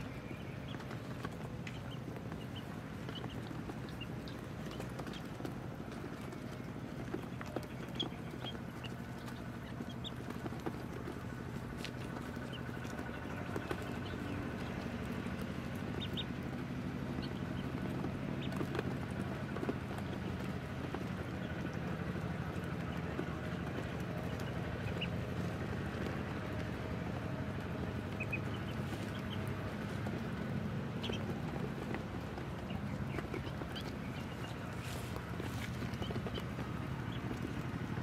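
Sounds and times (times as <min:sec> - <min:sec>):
bills clicking on feed: 0:00.0 - 0:38.0
ducklings peeping: 0:00.0 - 0:38.0
steady low hum: 0:00.0 - 0:38.0.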